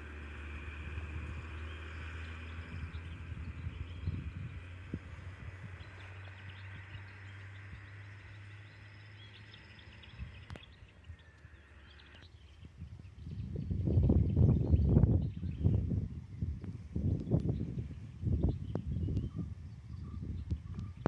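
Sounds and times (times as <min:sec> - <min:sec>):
bird and insect chirps: 0:00.3 - 0:21.0.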